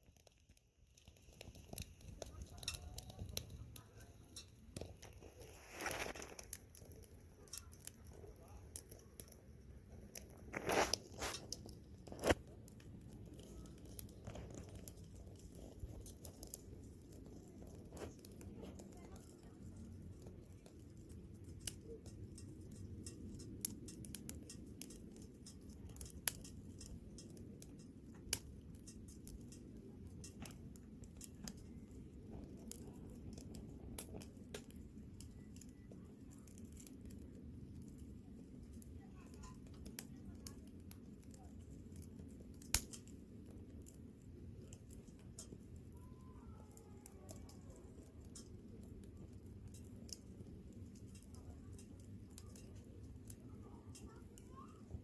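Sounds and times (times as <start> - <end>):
low steady rumble: 0.0 - 55.0
wood crackling and popping: 0.0 - 55.0
fire hissing: 0.1 - 55.0.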